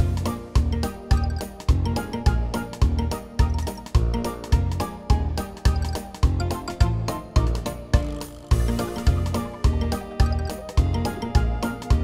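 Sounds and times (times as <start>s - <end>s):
instrumental music with bass beat: 0.0s - 12.0s.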